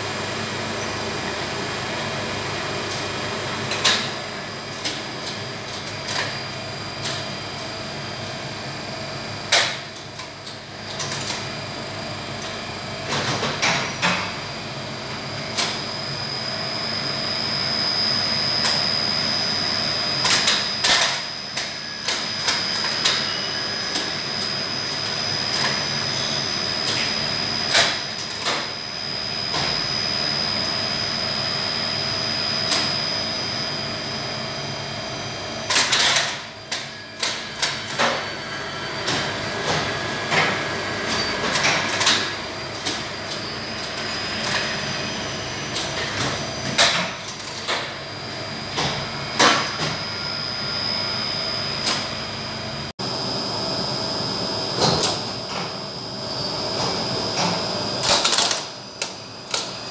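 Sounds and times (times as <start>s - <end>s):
machine room hum: 0.0s - 59.9s.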